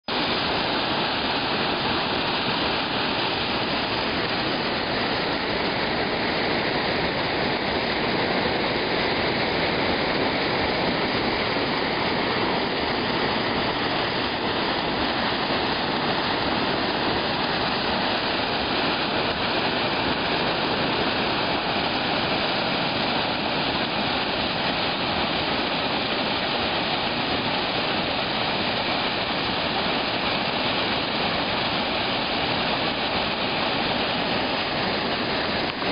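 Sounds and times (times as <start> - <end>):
waterfall rushing over rocks: 0.0 - 35.9.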